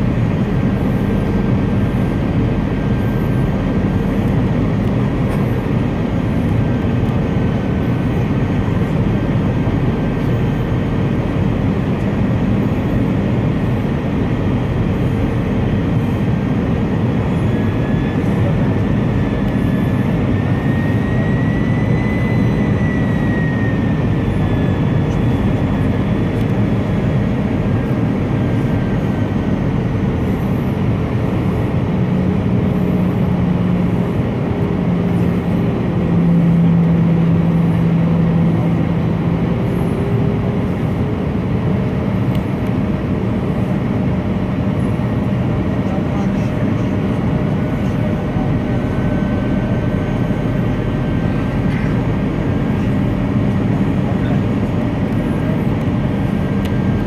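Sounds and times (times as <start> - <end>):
engine and airflow rumble: 0.0 - 57.0
faint whine: 0.0 - 57.0.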